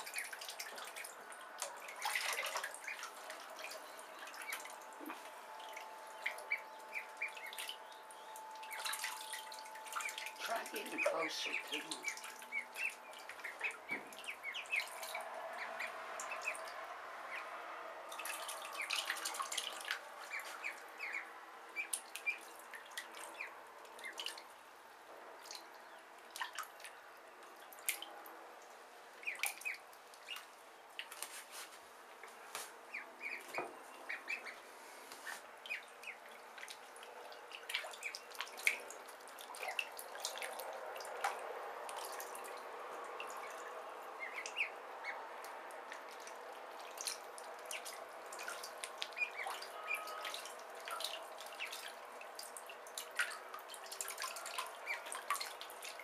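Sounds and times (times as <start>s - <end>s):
ducklings peeping: 0.0s - 24.4s, 29.2s - 31.3s, 32.8s - 41.3s, 43.2s - 46.3s, 46.9s - 55.9s
water splashing and dripping: 0.0s - 56.0s.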